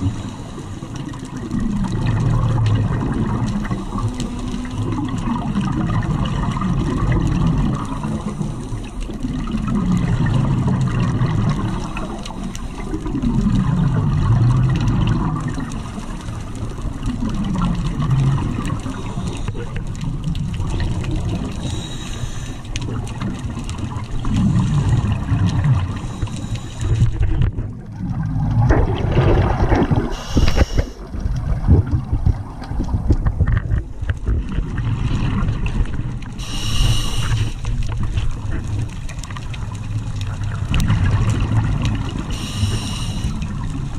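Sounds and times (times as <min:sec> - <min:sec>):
underwater bubbles gurgling: 0:00.0 - 0:43.9.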